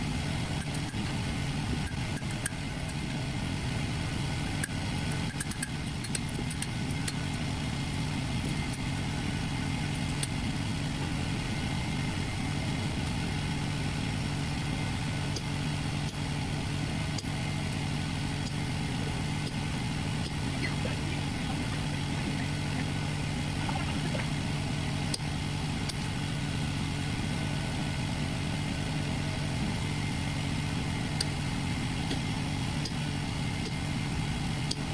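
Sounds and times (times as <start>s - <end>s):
forge burner roaring: 0.0s - 34.9s.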